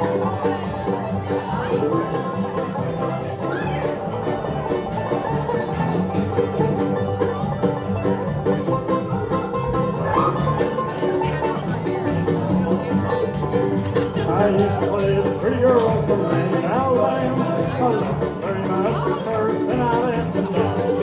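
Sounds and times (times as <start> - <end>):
banjo rolls: 0.0 - 21.0
bluegrass band playing: 0.0 - 21.0.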